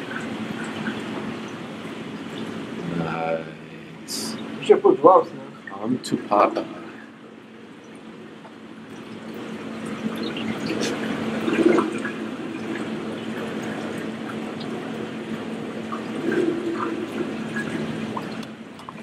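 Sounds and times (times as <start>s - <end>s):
water splashing: 0.0s - 3.0s, 4.1s - 19.0s
aquarium water sloshing: 0.0s - 19.0s
steady low hum: 0.0s - 19.0s.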